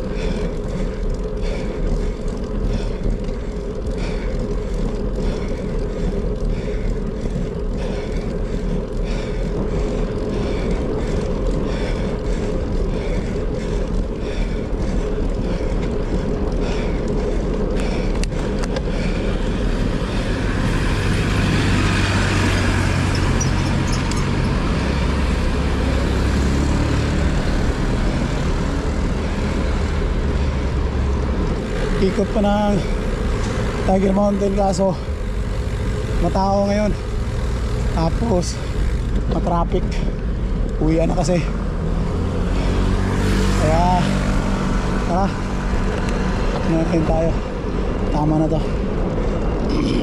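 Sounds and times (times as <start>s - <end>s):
road noise: 0.0s - 50.0s
traffic: 0.0s - 50.0s
vehicle engine humming: 0.0s - 50.0s.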